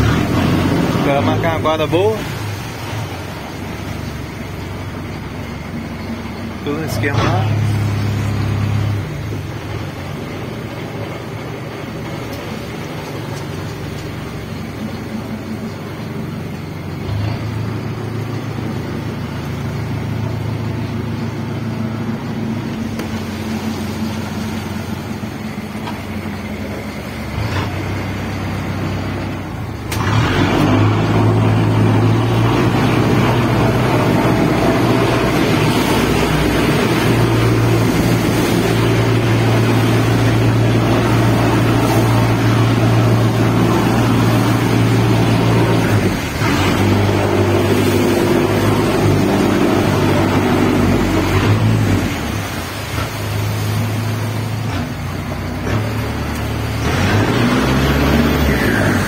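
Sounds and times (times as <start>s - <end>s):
boat engine running: 0.0s - 59.0s
water rushing along hull: 0.0s - 59.0s.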